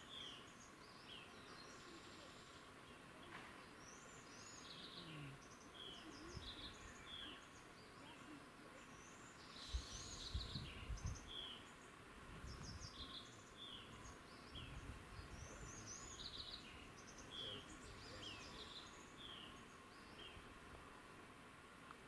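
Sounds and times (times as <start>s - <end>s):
small birds calling: 0.0s - 20.6s.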